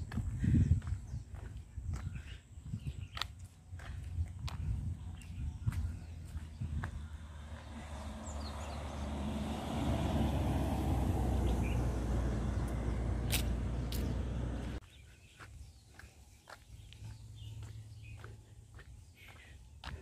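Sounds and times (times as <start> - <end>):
vehicle engine hum and tyre rush: 0.0 - 20.0.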